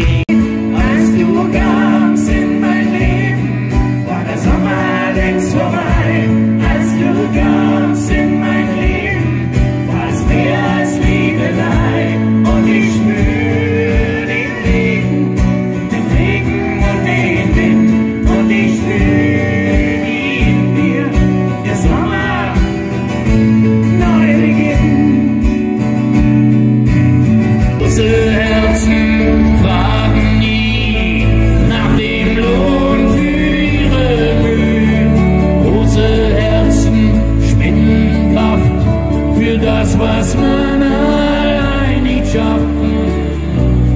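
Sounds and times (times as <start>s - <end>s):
voices singing: 0.0s - 25.9s, 27.8s - 43.9s
heavy bass: 0.0s - 43.9s
strummed acoustic guitars: 0.0s - 43.9s.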